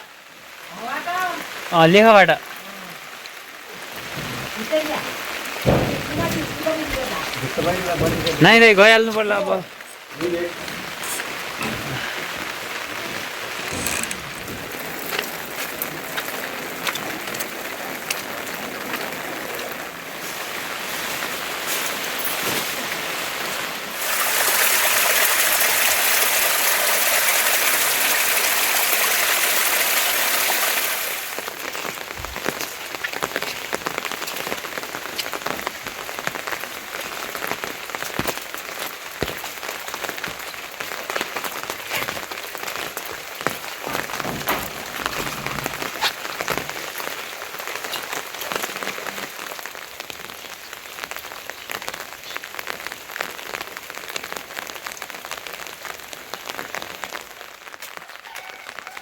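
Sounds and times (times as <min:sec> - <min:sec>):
raindrops ticking: 0:00.0 - 0:58.9
heavy rain rushing: 0:00.0 - 0:59.0.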